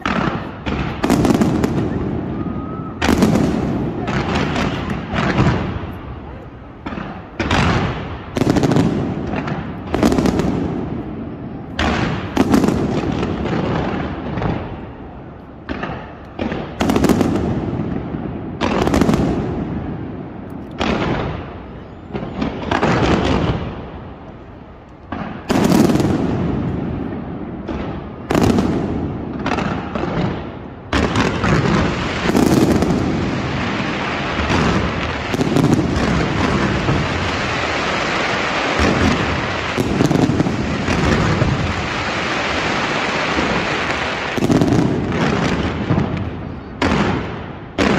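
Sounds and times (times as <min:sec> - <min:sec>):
continuous rush of noise: 0:00.0 - 0:44.4, 0:45.2 - 0:47.8
fireworks bangs: 0:00.0 - 0:47.9.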